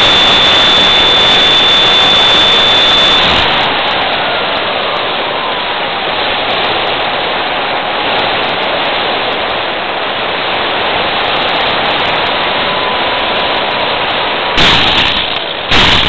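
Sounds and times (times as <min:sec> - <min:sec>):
hiss of rushing air: 0:00.0 - 0:16.0.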